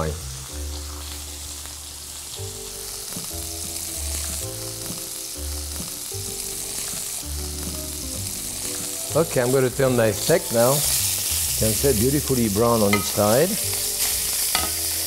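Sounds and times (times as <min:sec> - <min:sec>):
soft background music: 0:00.0 - 0:15.0
steaks sizzling in oil: 0:00.0 - 0:15.0.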